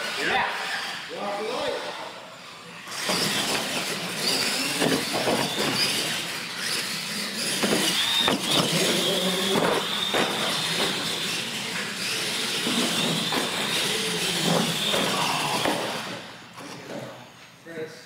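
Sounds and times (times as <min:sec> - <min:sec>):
toy truck motors whining: 0:01.8 - 0:17.4.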